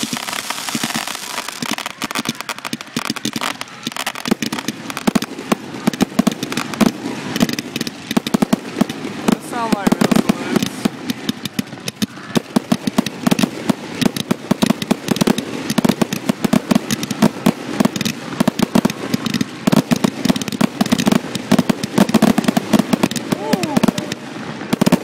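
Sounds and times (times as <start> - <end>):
fireworks popping and crackling: 0.0 - 25.0.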